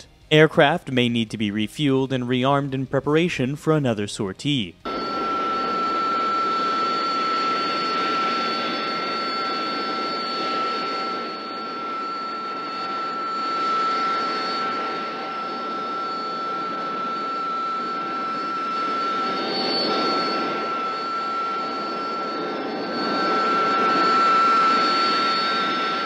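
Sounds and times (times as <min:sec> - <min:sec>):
jet engine running: 0:04.6 - 0:26.0.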